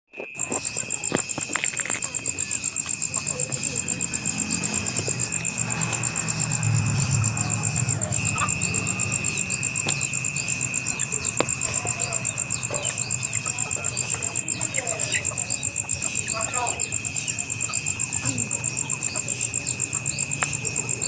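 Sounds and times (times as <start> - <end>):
insects trilling: 0.1 - 21.0.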